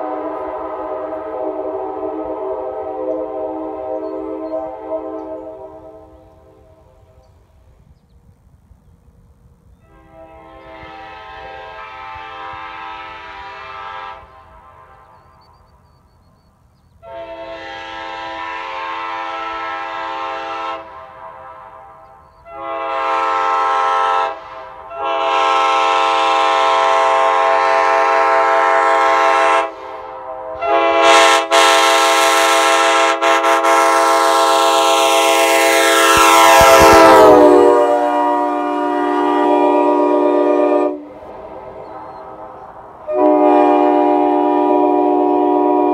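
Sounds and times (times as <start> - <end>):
train horn blasts: 0.0 - 7.4, 9.8 - 16.1, 16.9 - 45.9.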